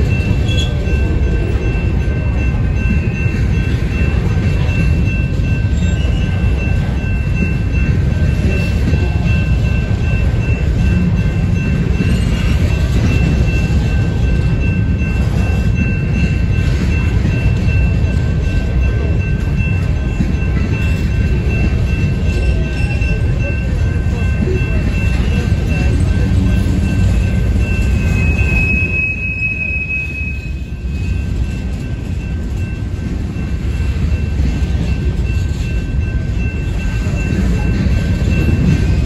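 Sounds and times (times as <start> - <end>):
freight train wheels rumbling: 0.0 - 39.0
high-pitched tones: 0.0 - 39.0.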